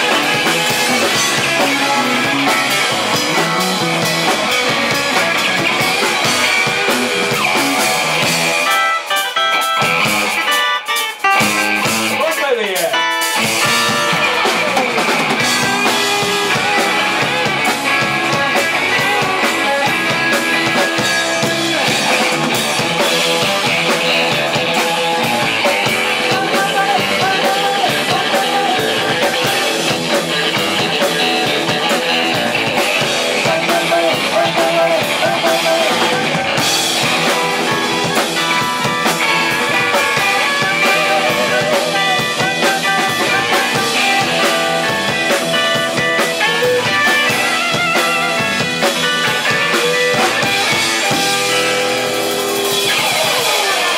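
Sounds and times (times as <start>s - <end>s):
live jazz band playing: 0.0s - 53.9s.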